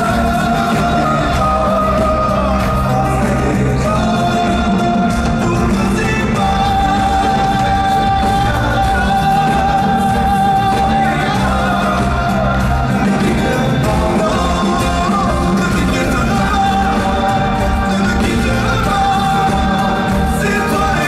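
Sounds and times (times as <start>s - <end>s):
band with steady bass beat: 0.0s - 21.0s
man singing: 0.0s - 21.0s.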